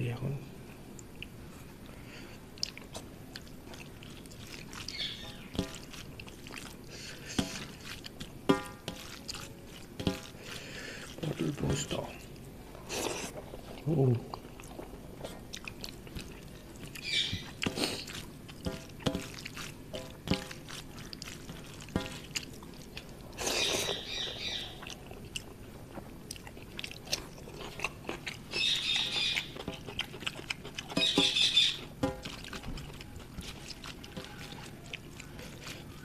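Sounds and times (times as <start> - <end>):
person chewing: 0.9 - 36.0.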